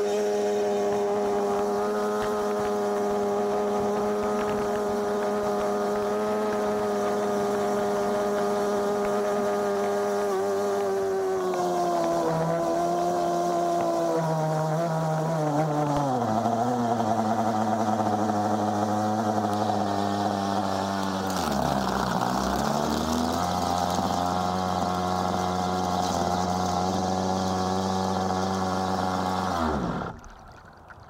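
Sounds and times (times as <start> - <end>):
model boat engine idling: 0.0 - 31.0.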